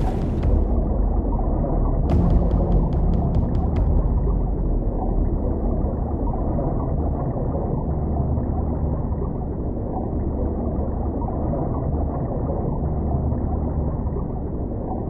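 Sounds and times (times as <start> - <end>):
underwater wash of noise: 0.0 - 15.0.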